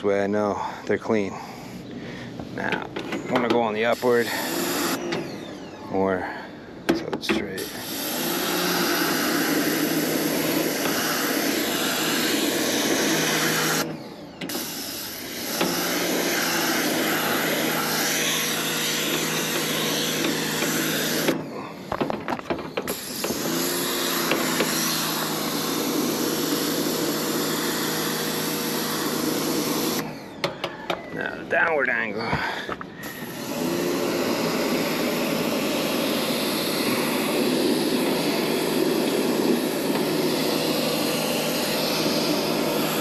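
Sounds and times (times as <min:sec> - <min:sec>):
pressure washer pump humming: 0:00.0 - 0:43.0.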